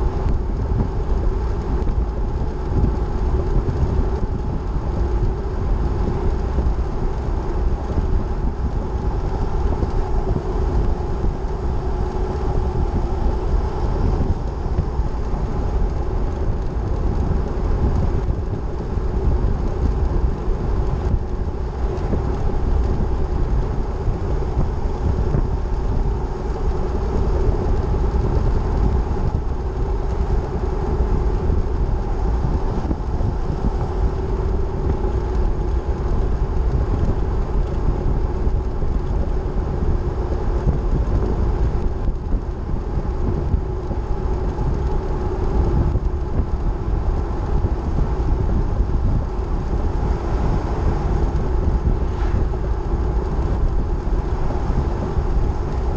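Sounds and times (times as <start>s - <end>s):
car engine and tyre noise: 0.0s - 55.9s
faint steady drone: 0.0s - 55.9s.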